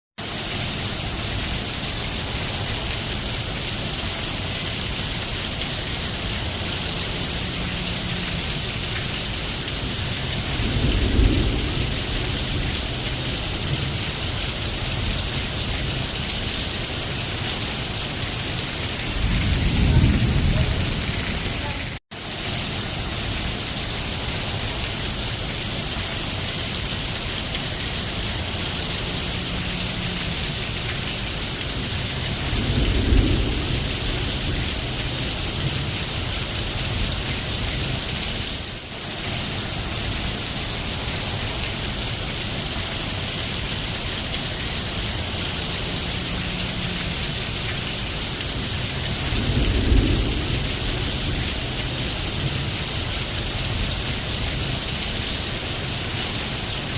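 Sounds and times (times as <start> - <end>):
steady rain falling: 0.2 - 56.9.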